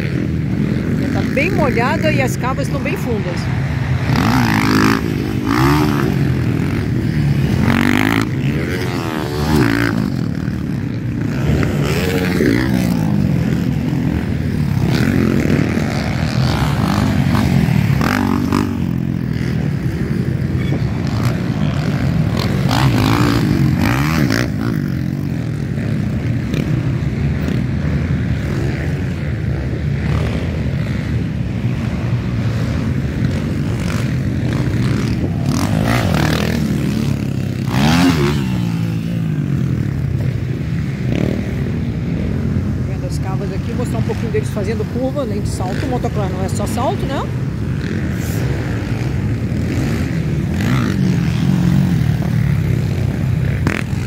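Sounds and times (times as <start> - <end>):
motocross engines revving: 0.0 - 54.0.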